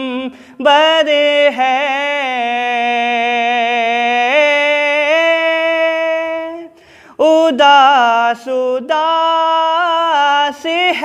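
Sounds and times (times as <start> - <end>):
man singing unaccompanied lament: 0.0 - 11.0.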